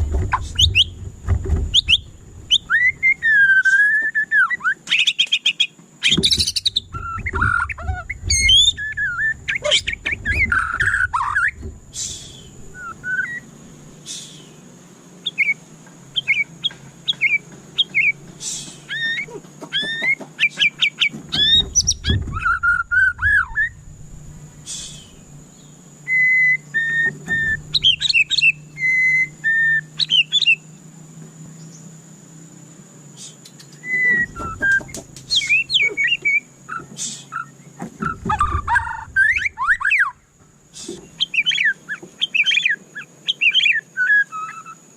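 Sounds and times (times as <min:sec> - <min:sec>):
bird singing whistled notes: 0:00.3 - 0:01.0, 0:01.8 - 0:14.6, 0:15.2 - 0:23.9, 0:24.6 - 0:30.8, 0:33.2 - 0:44.9.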